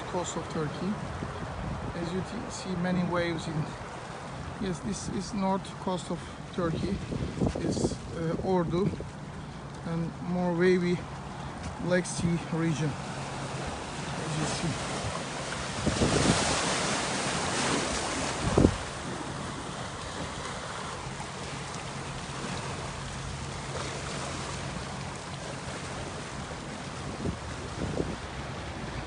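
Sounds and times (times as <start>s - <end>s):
surf washing onto shore: 0.0s - 29.0s
wind buffeting microphone: 0.9s - 3.9s, 6.4s - 9.4s, 11.0s - 29.0s.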